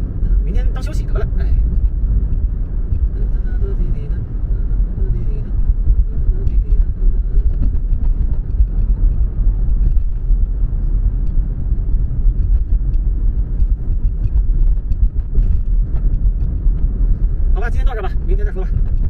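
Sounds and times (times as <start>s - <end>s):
car road rumble: 0.0s - 19.0s.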